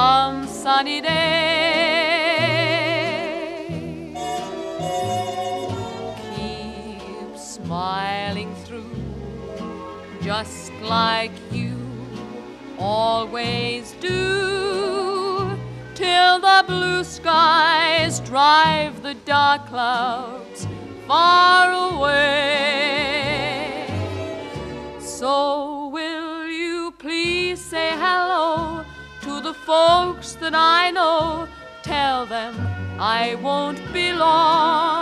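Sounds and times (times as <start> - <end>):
person singing with vibrato: 0.0 - 9.1, 12.8 - 35.0
instrumental backing music: 0.0 - 35.0.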